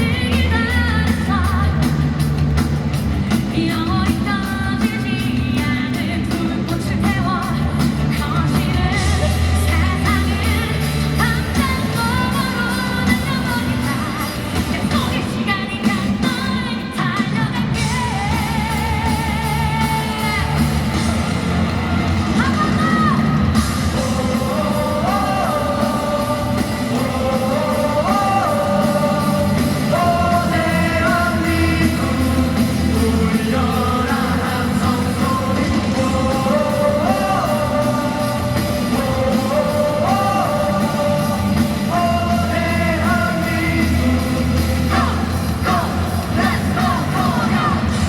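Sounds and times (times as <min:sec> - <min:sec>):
rock band playing live: 0:00.0 - 0:48.0
person singing: 0:03.3 - 0:48.0.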